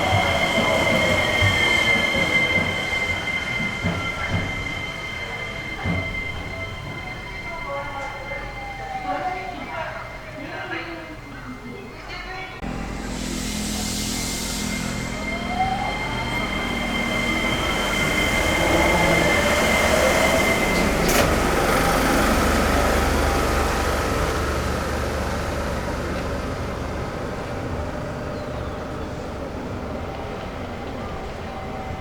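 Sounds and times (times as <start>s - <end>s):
train inverter whining: 0.0s - 32.0s
train running noise: 0.0s - 32.0s.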